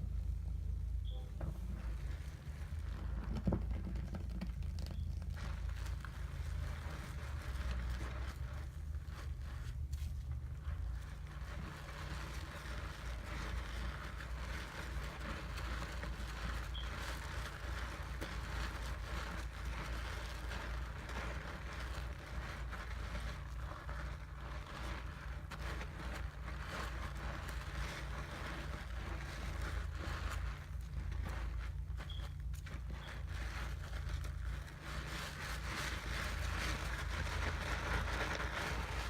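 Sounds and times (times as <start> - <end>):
steady low hum: 0.0 - 39.0
soap lather crackling: 1.8 - 39.0.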